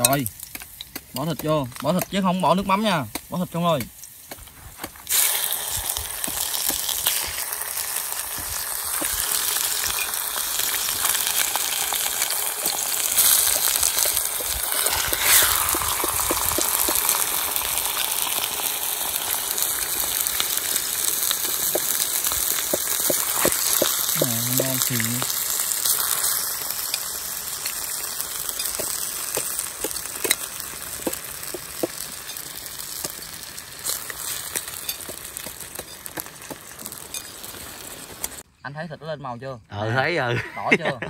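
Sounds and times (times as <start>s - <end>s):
meat sizzling in hot oil: 0.0s - 38.4s.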